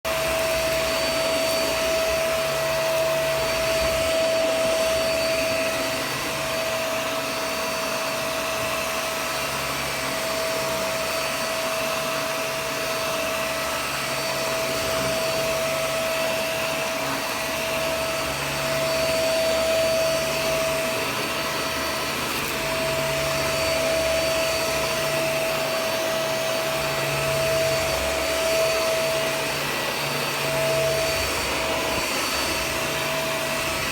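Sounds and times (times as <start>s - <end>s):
vacuum motor whining: 0.1s - 33.9s.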